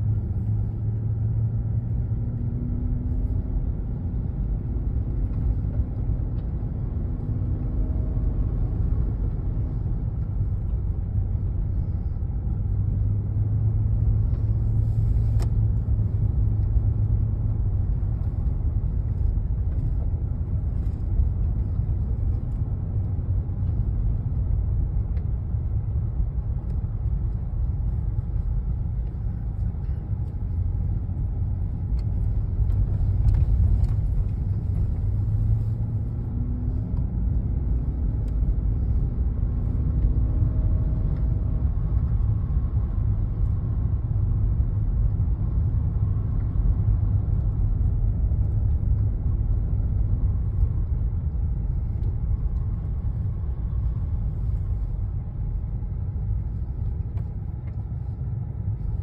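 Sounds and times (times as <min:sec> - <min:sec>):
vehicle driving on snowy road: 0:00.0 - 0:59.0.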